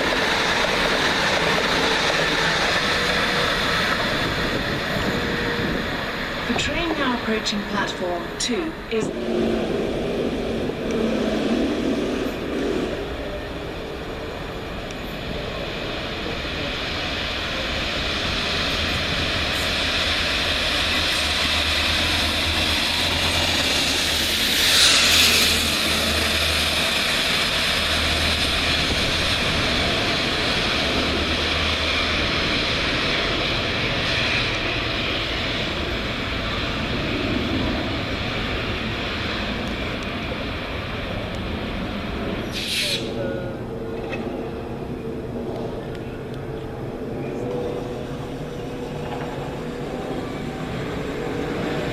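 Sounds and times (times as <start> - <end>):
electric train rumbling and humming: 0.0 - 51.9.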